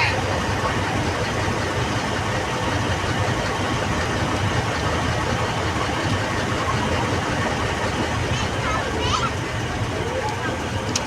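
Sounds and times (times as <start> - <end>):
road travel noise: 0.0 - 11.0
vehicle engine rumble: 0.0 - 11.0.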